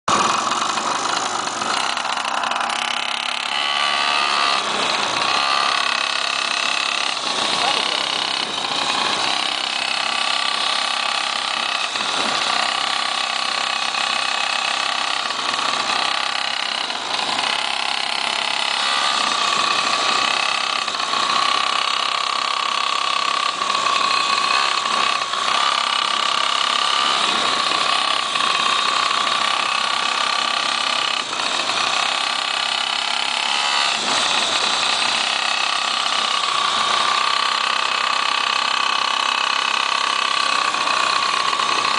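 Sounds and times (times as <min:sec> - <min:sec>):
two-stroke engine whining: 0:00.1 - 0:41.9.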